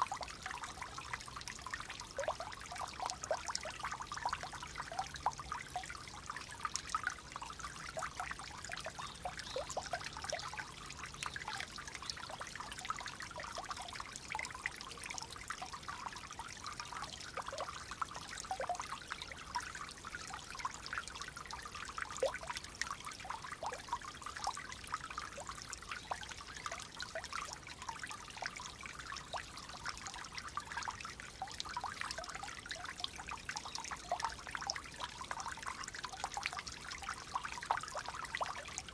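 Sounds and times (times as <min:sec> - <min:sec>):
water flowing and trickling: 0:00.0 - 0:38.9.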